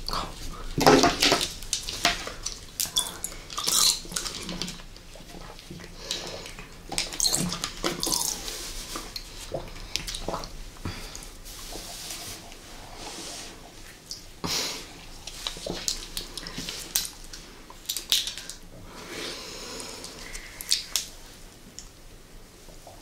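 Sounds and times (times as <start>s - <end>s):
wet slurping and squelching: 0.0s - 18.6s.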